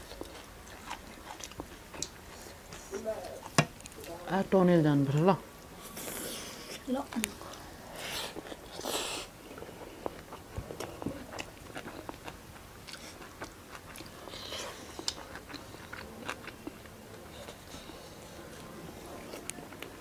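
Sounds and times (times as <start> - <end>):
person chewing food: 0.0 - 4.2, 5.7 - 20.0.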